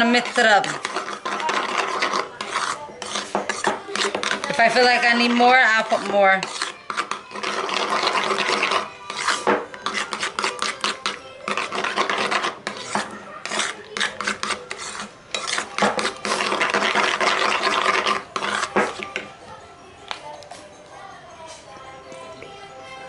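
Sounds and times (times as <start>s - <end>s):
metal spoon scraping a paper bowl: 0.0s - 19.3s.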